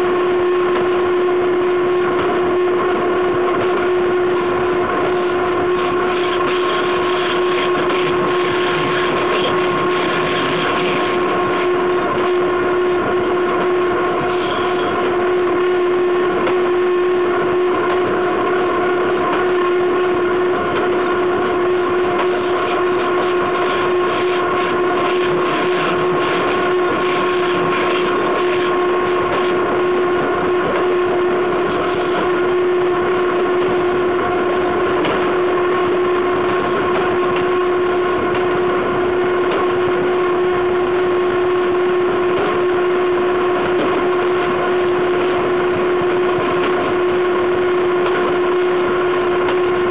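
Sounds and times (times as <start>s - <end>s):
constant pitched whine: 0.0s - 49.9s.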